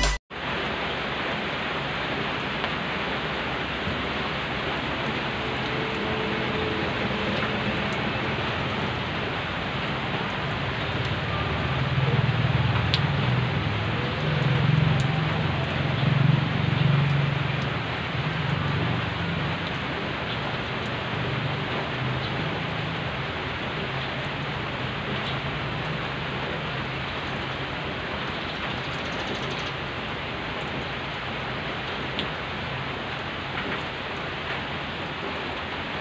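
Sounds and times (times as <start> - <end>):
rain falling on wet road: 0.4 - 36.0.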